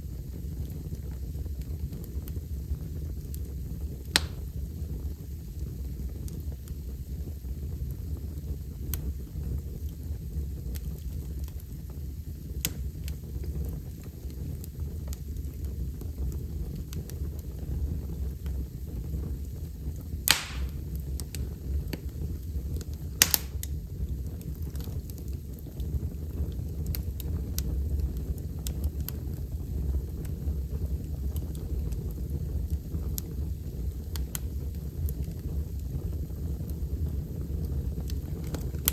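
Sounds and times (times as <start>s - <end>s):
wood fire crackling: 0.0s - 38.9s
burning wood popping: 0.1s - 7.3s, 10.6s - 38.9s.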